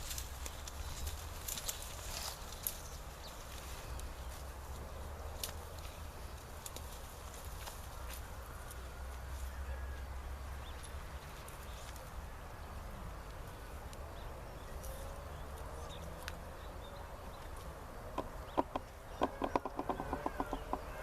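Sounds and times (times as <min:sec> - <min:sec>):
faint distant bird calls: 0:00.6 - 0:21.0.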